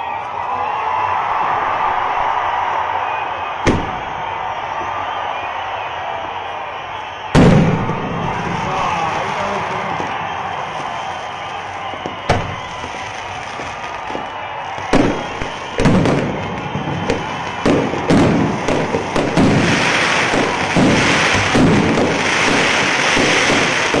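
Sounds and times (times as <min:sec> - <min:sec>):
fireworks bangs: 0:02.0 - 0:24.0.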